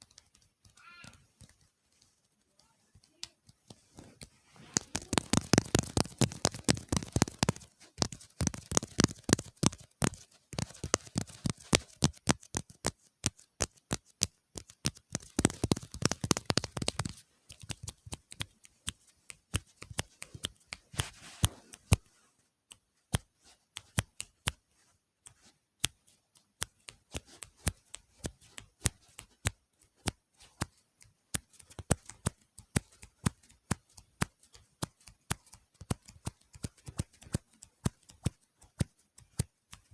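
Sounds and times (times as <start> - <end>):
close tapping and clicking: 0.0 - 22.1, 25.3 - 39.9.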